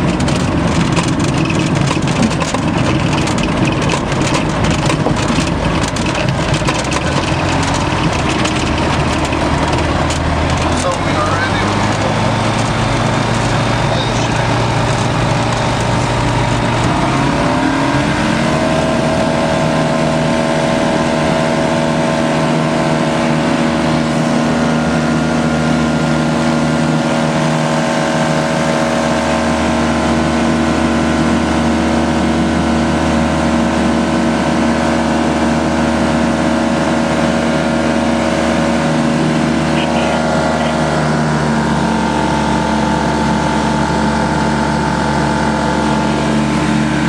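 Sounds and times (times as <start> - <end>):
propeller aircraft engine running: 0.0 - 47.0.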